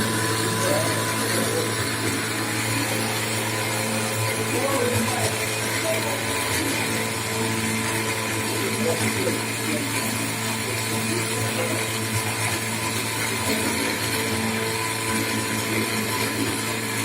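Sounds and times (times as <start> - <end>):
machine tool motor hum and whine: 0.0 - 17.0
machining noise: 0.0 - 17.0.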